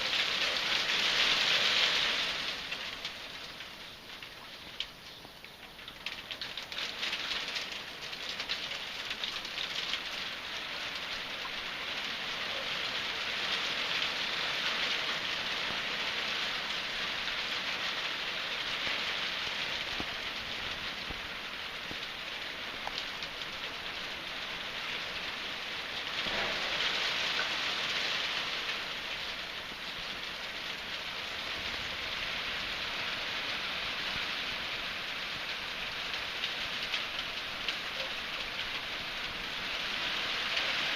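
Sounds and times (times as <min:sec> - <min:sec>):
hail hitting surfaces: 0:00.0 - 0:40.9.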